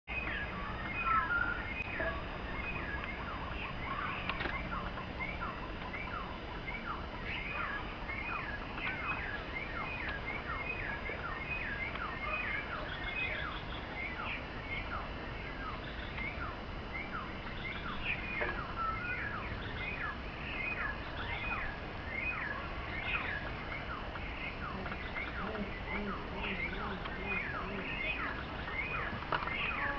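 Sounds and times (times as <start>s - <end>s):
birds chirping: 0.1s - 29.9s
low steady rumble: 0.1s - 29.9s.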